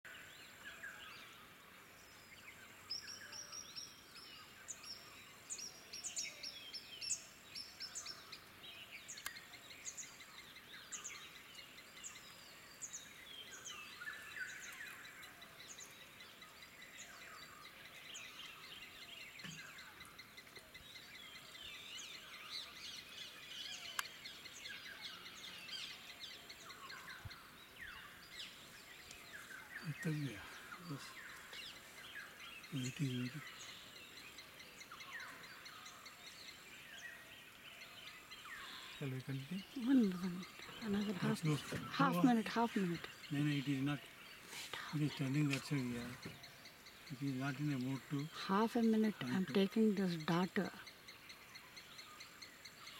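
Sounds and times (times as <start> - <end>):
birds chirping and calling: 2.2 - 52.9.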